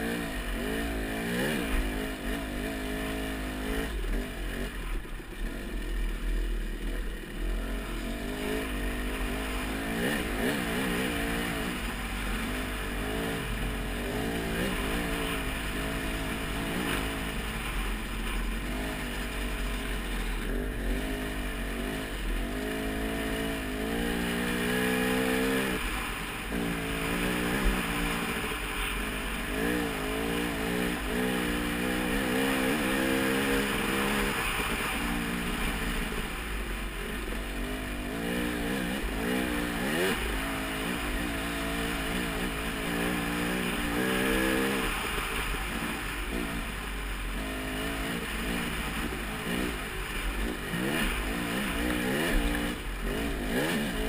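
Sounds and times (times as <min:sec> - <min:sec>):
dirt bike engine revving: 0:00.0 - 0:54.0
steady rushing noise: 0:00.0 - 0:54.0.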